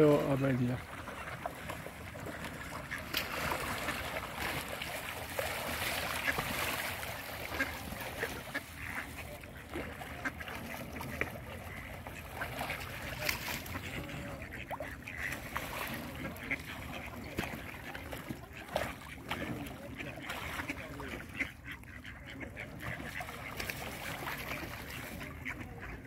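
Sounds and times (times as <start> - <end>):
ducks quacking: 0.0 - 26.0
small water splashes: 0.0 - 26.0.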